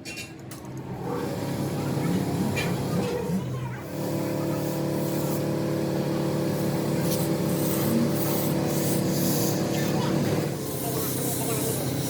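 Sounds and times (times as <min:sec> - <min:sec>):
engine running steadily: 0:00.2 - 0:12.0.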